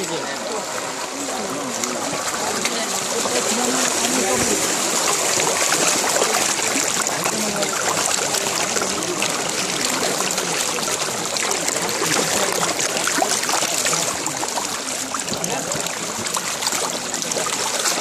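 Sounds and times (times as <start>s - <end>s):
fish thrashing in shallow water: 0.0s - 18.0s.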